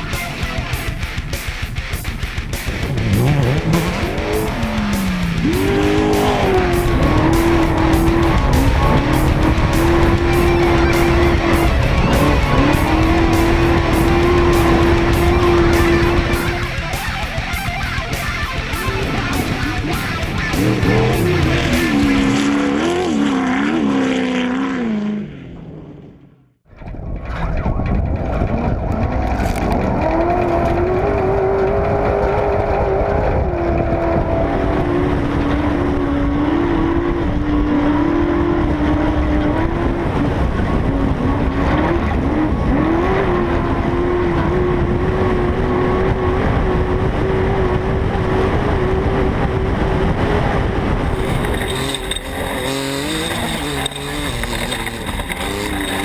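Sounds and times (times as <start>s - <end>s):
rough rushing noise: 0.0s - 26.4s, 27.1s - 56.0s
engine running hard: 0.0s - 26.6s, 28.1s - 56.0s
race engine revving: 0.0s - 26.6s, 28.4s - 56.0s.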